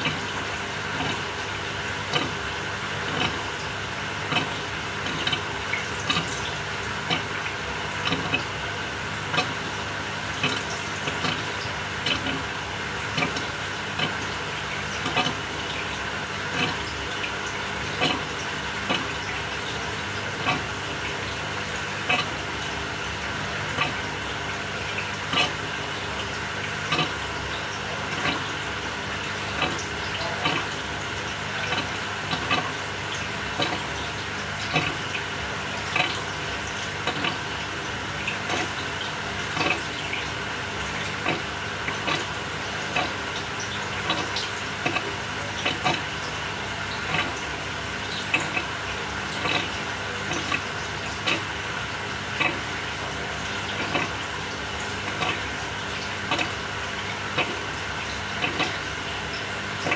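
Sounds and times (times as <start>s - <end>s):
washing machine motor hum: 0.0s - 59.9s.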